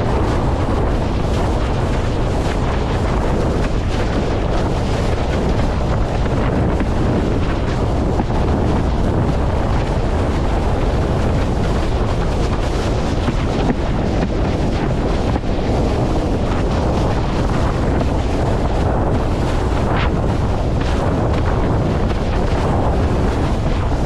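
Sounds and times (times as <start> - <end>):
water rushing past a board: 0.0 - 24.0
wind buffeting the microphone: 0.0 - 24.0.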